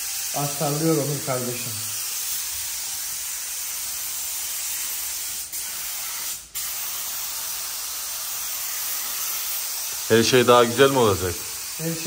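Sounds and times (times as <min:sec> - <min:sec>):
paint spray gun hissing: 0:00.0 - 0:12.0.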